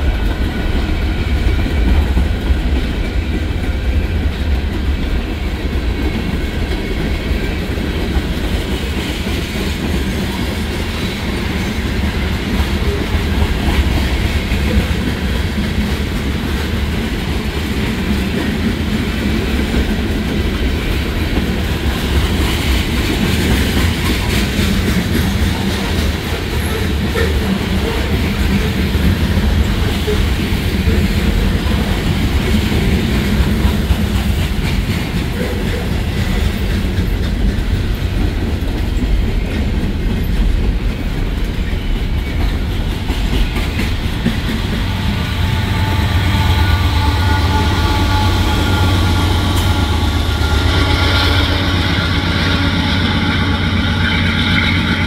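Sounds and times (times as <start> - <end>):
wheels clacking over rail joints: 0.0 - 54.1
freight train rumbling past: 0.0 - 55.0.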